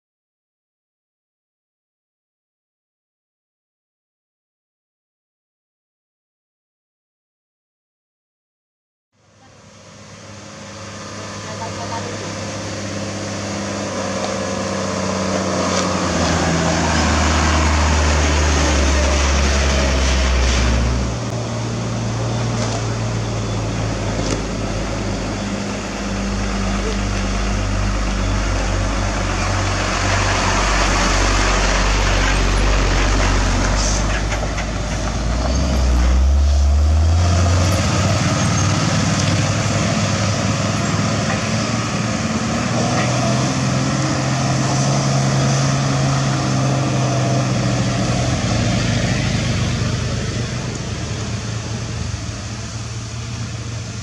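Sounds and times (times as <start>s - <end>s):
diesel truck engine running: 9.2s - 54.0s
tyre and road noise hiss: 9.6s - 54.0s.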